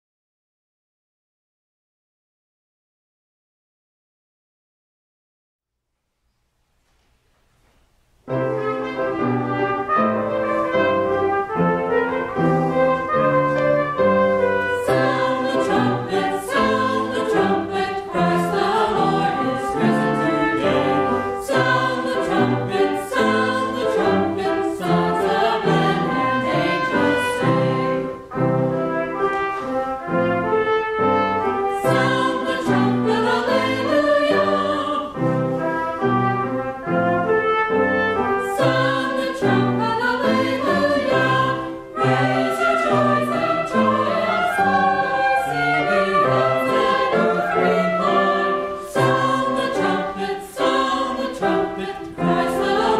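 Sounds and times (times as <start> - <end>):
choir singing: 8.3 - 52.9
trumpet: 8.3 - 52.9.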